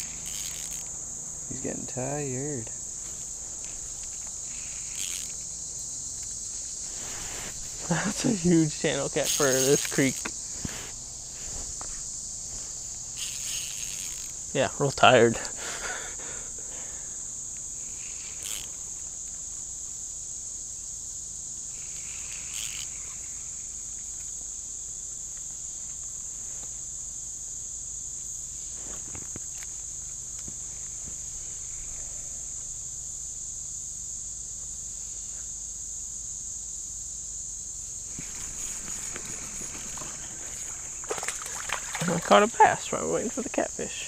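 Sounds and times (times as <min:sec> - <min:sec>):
insect chorus droning: 0:00.0 - 0:44.0.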